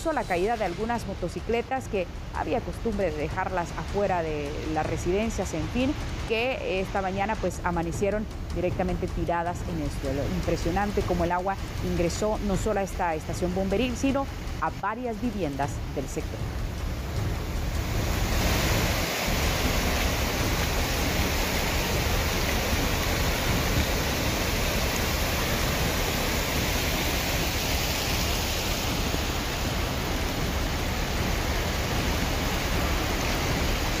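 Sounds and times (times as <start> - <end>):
floodwater rushing along street: 2.0 - 34.0.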